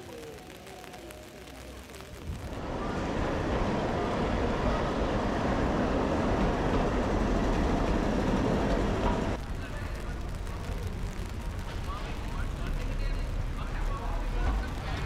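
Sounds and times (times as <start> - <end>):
tram rumbling on rails: 2.3 - 15.0.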